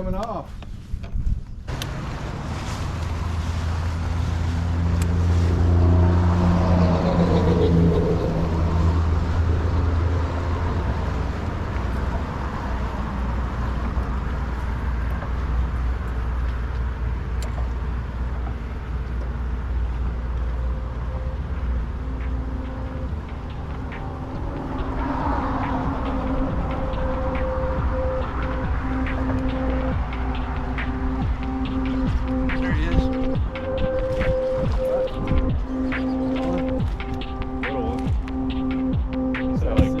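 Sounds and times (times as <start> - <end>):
wind and water rushing: 1.7 - 39.0
outboard motor humming: 1.7 - 39.9.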